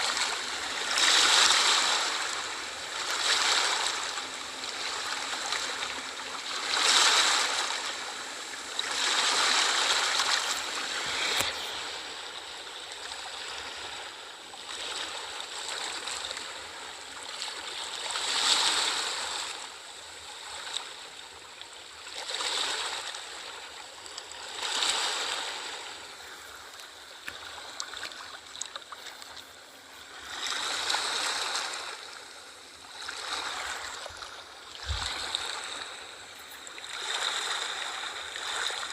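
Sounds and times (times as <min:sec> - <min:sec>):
sea waves breaking: 0:00.0 - 0:19.7, 0:22.0 - 0:38.9.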